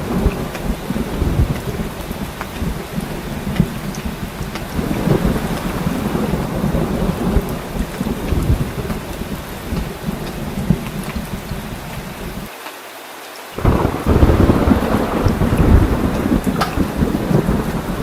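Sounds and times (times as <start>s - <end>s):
rolling thunder: 0.0s - 12.5s, 13.6s - 18.0s
heavy rain: 0.0s - 18.0s.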